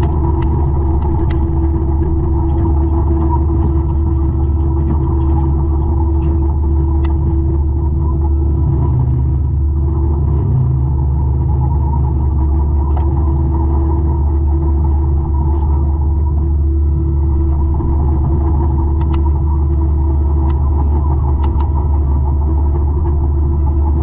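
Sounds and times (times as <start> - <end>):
mulcher engine rumbling: 0.0 - 24.0.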